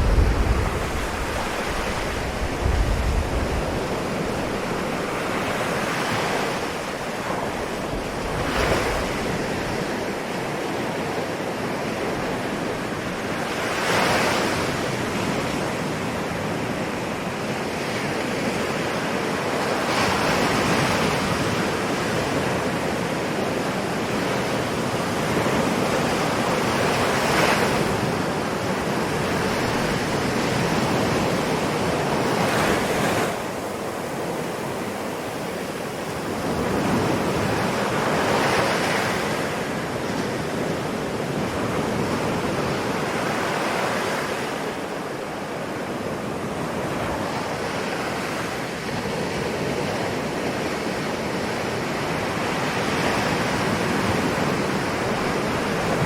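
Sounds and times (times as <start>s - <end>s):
ocean waves washing: 0.0s - 56.0s.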